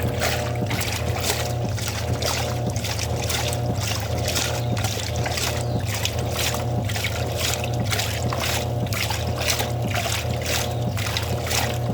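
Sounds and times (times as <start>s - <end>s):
washing machine motor hum: 0.0s - 11.9s
water swishing: 0.0s - 11.9s.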